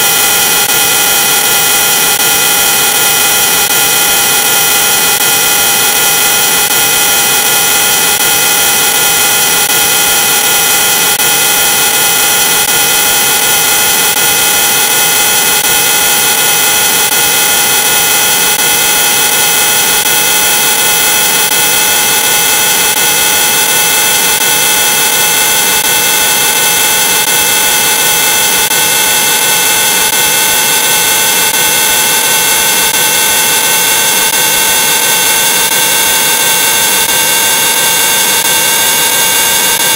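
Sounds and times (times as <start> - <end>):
harsh distorted noise with tones: 0.0 - 39.9.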